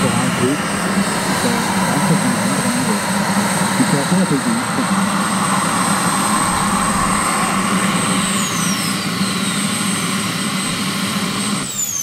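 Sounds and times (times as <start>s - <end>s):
model jet engine whine: 0.0s - 12.0s
rushing exhaust noise: 0.0s - 12.0s.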